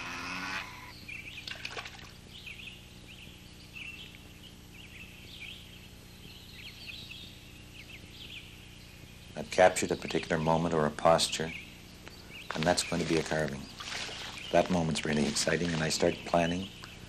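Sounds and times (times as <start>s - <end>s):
faint low hum: 0.0s - 17.0s
small birds chirping: 0.0s - 17.0s.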